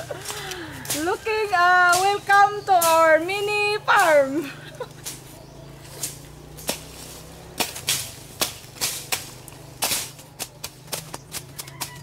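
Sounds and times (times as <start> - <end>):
blade swishing through grass: 0.0 - 12.0.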